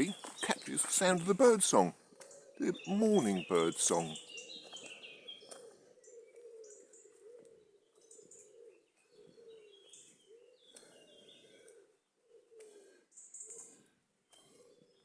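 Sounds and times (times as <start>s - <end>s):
songbirds chirping and singing: 0.0s - 15.0s.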